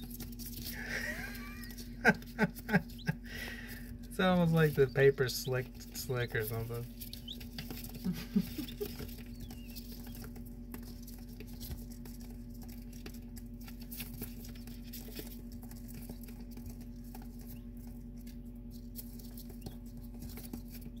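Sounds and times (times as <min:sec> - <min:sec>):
chicks pattering on paper: 0:00.0 - 0:21.0
low hum: 0:00.0 - 0:21.0.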